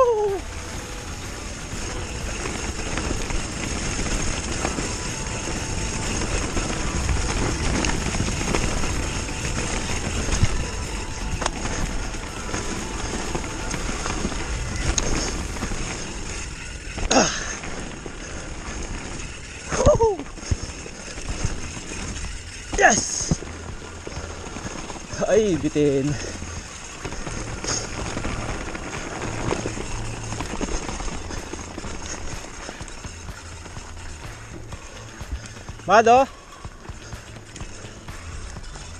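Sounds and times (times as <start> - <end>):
bike rattling over bumps: 0.0 - 38.9
tyres on dirt and leaves: 0.0 - 38.9.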